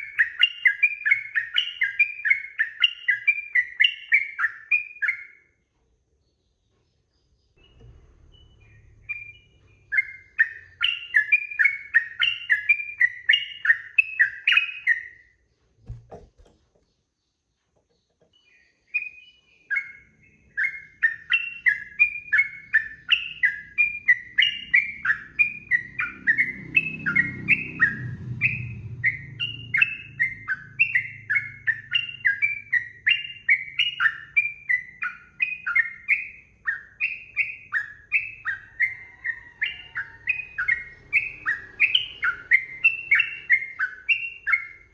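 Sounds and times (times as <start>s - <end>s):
bird chattering song: 0.0s - 5.5s, 6.2s - 15.3s, 15.9s - 44.9s.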